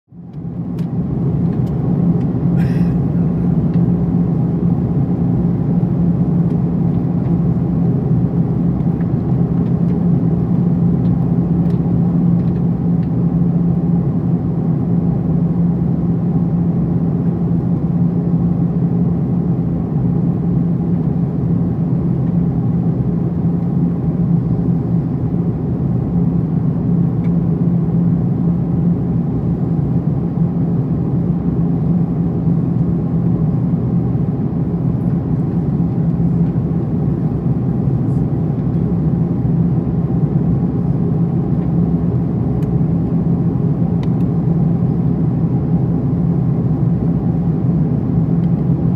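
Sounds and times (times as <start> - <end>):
jet engines droning: 0.2 - 48.9.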